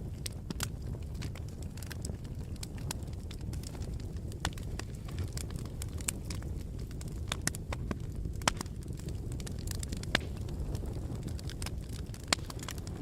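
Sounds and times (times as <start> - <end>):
crackles and pops of fire: 0.0 - 13.0
wood fire burning: 0.0 - 13.0.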